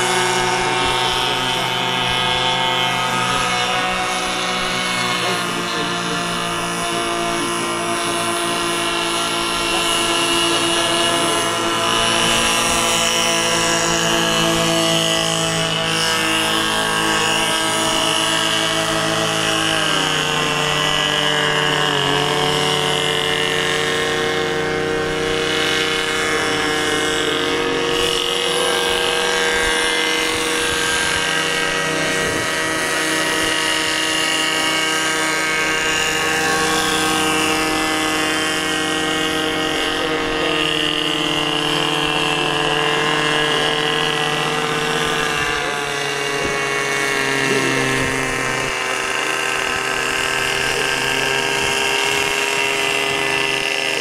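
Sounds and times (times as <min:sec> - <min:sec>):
model boat engines buzzing: 0:00.0 - 0:54.0.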